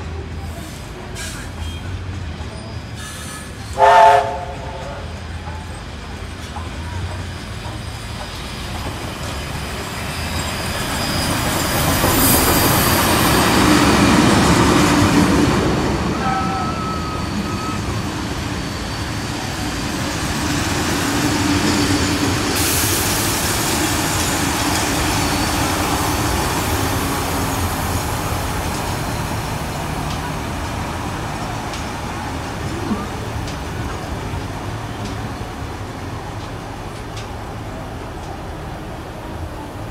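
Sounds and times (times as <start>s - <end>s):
steam locomotive passing: 0.0s - 39.9s.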